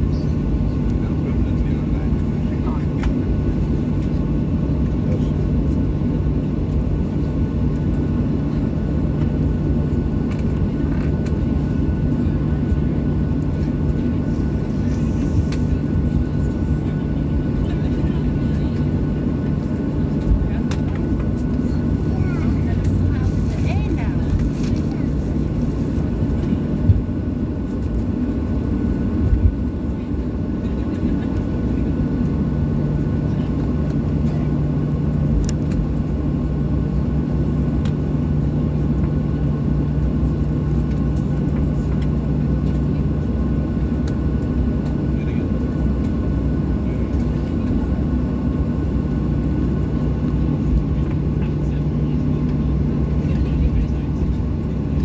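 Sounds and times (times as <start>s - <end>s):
airliner engine rumble: 0.0s - 55.0s
steady cabin hum: 0.0s - 55.0s.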